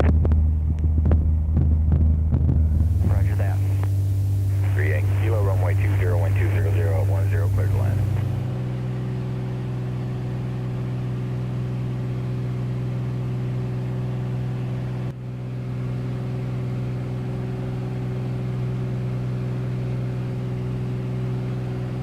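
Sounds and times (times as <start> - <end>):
radial aircraft engine droning: 2.5 - 22.0.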